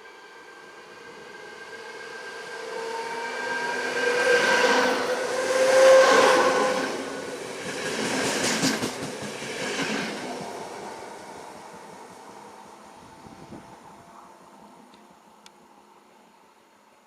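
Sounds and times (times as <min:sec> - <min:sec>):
train passing: 0:00.0 - 0:16.5.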